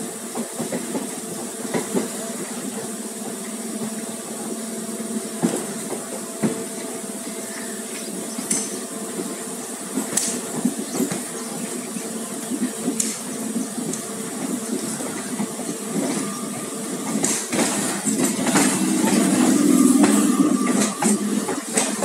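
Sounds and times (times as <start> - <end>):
passing train rumbling hum: 0.0 - 22.0
train wheels clicking over rail joints: 0.0 - 22.0.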